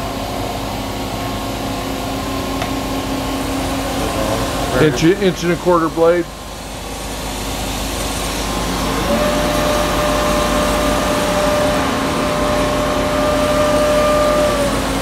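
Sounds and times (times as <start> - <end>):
bandsaw machine hum: 0.0 - 15.0
lower whine: 0.0 - 15.0
steady whine: 0.0 - 15.0.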